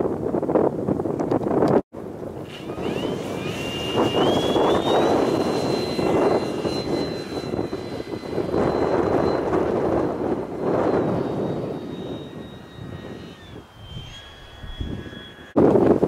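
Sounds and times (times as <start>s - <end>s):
wind buffeting microphone: 0.0s - 16.0s
model plane motor whining: 2.1s - 16.0s.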